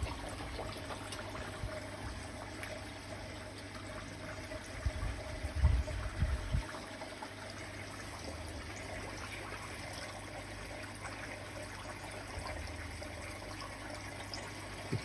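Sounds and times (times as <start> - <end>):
pond water trickling: 0.0 - 15.0.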